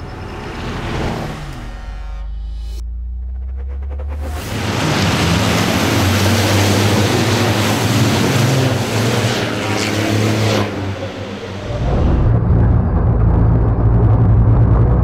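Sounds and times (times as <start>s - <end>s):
race truck engines roaring: 0.0s - 2.3s, 3.1s - 15.0s.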